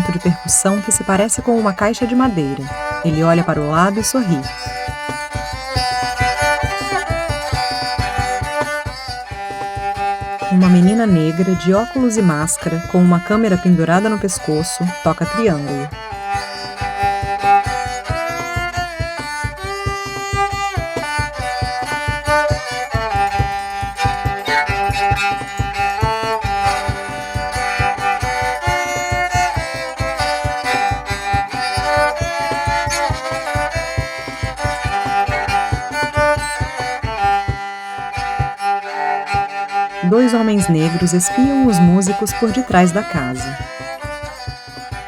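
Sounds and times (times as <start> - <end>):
cajon beating rhythm: 0.0 - 45.0
fiddle bowing lively melody: 0.0 - 45.0.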